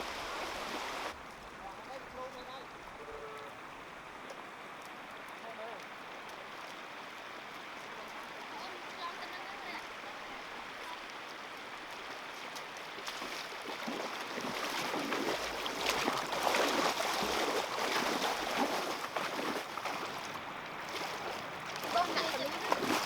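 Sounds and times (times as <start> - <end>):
water sloshing and splashing: 3.6 - 23.0.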